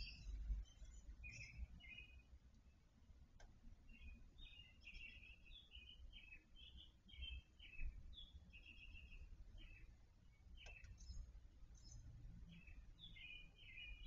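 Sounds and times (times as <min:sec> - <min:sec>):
faint songbird chirping: 0:00.0 - 0:14.0.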